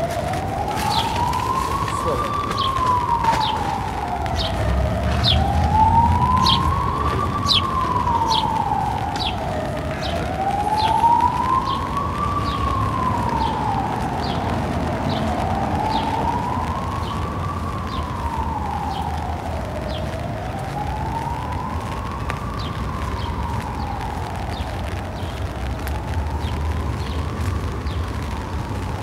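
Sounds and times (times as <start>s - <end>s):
siren wailing: 0.0s - 29.0s.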